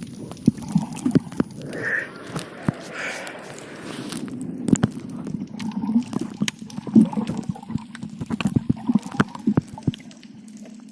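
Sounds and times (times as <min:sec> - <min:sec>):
water sloshing and splashing: 0:00.0 - 0:10.9.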